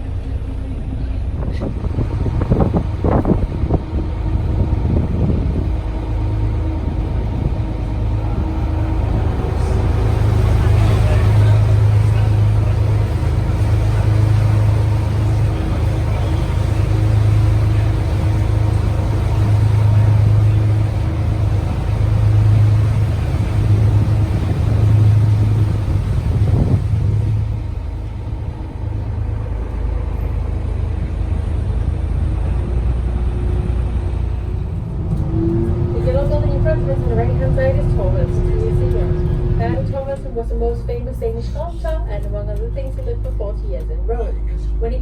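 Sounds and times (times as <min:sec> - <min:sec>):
boat engine droning: 0:00.0 - 0:45.0.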